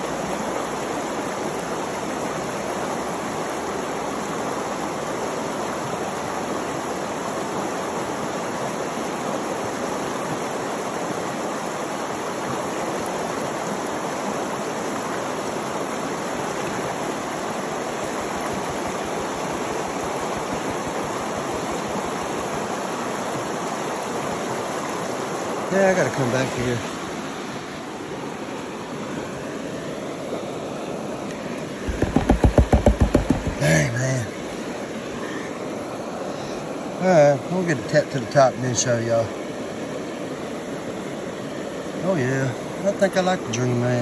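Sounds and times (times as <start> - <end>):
creek water running: 0.0 - 44.0.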